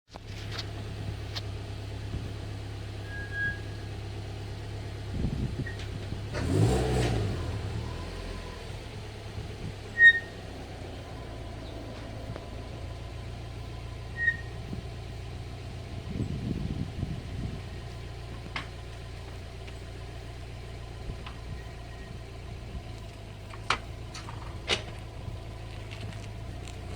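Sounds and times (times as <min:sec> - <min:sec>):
brakes squealing: 0:00.1 - 0:26.9
car engine running low: 0:00.1 - 0:26.9.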